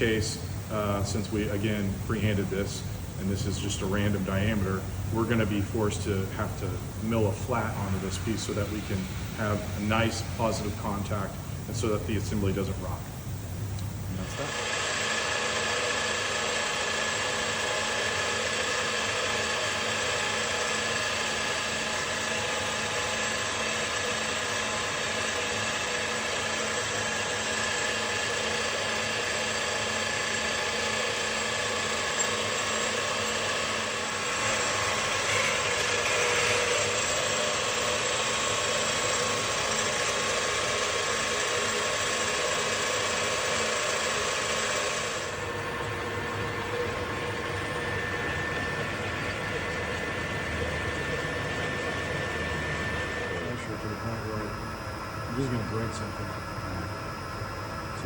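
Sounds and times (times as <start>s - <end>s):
machine tool running with whine: 0.0s - 58.0s.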